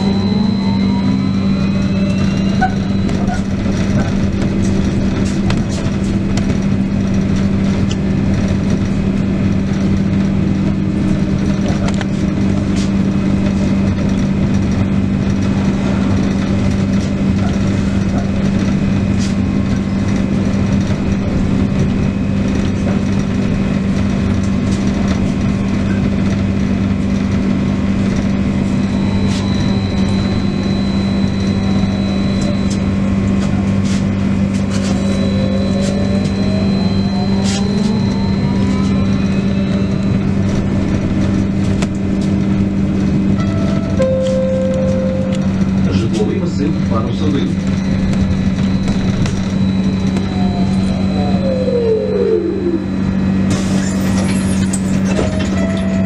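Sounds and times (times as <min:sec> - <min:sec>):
electrical hum: 0:00.0 - 0:56.0
road rumble and tyre noise: 0:00.0 - 0:56.0.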